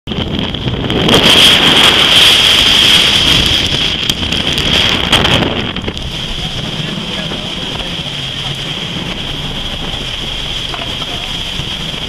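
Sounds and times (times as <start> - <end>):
rough sea breaking: 0.1 - 12.0
storm wind buffeting microphone: 0.1 - 12.0.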